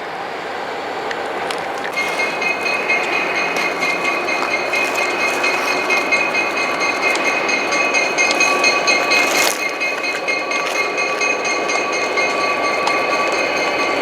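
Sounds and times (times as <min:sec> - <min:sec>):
train wheels rumbling on rail: 0:00.0 - 0:14.0
high-pitched wheel squeal: 0:01.9 - 0:14.0.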